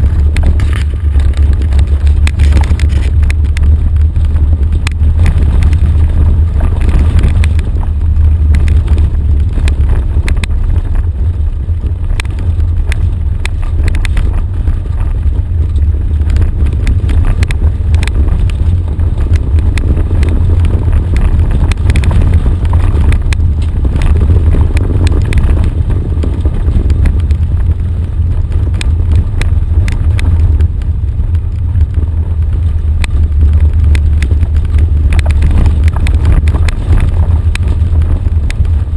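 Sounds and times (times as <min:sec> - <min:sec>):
vehicle low rumble: 0:00.0 - 0:38.9.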